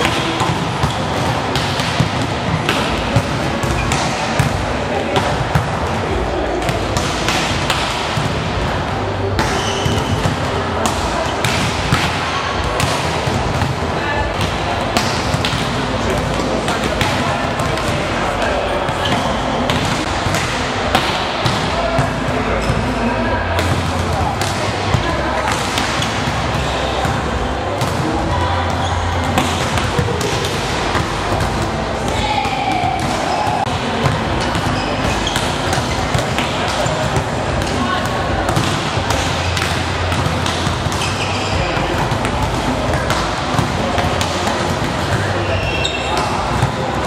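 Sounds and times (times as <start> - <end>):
volleyballs struck and hitting floor: 0.0 - 22.9, 23.5 - 47.0
players' voices: 0.0 - 47.0.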